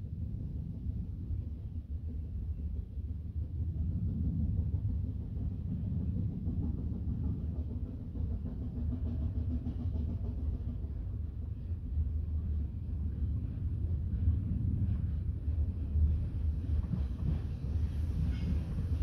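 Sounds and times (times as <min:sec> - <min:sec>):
steam locomotive rumble: 0:00.0 - 0:19.0.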